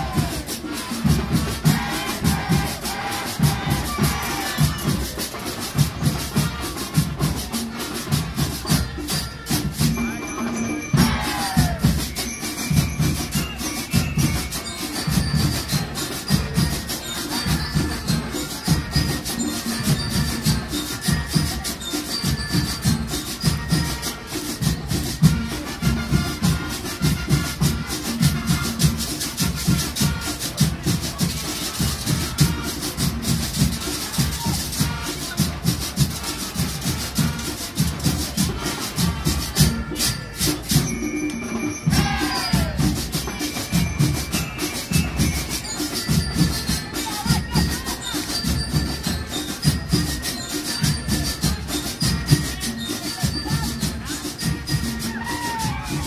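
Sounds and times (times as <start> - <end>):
music with fast percussive beat: 0.0 - 56.0.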